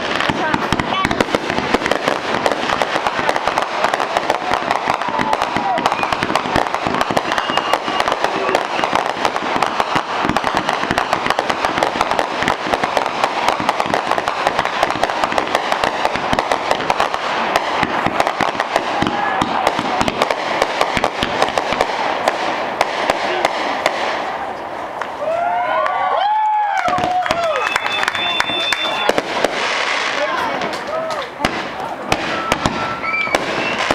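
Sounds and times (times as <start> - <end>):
fireworks bangs and crackling: 0.0 - 33.9.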